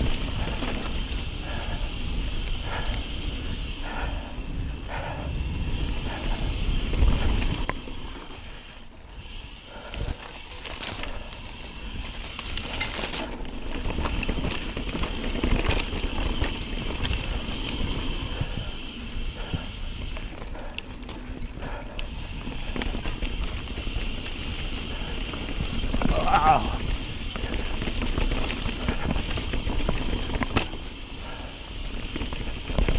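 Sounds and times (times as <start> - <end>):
bike knocking and rattling: 0.0 - 32.9
tyres rumbling over dirt: 5.3 - 32.9.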